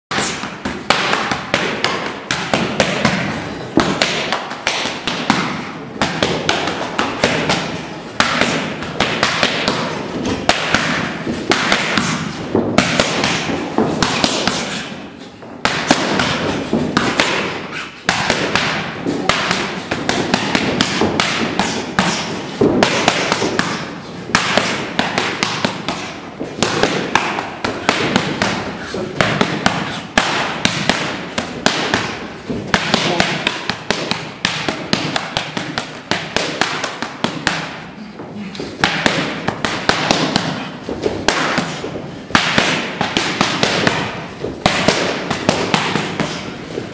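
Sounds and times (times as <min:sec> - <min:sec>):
boxing gloves smacking focus mitts: 0:00.1 - 0:46.9.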